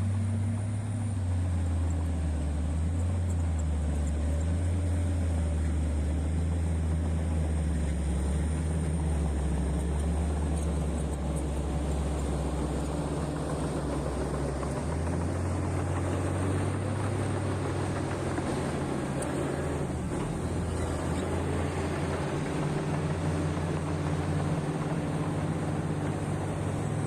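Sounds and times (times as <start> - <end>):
heavy diesel engine humming: 0.0 - 27.0.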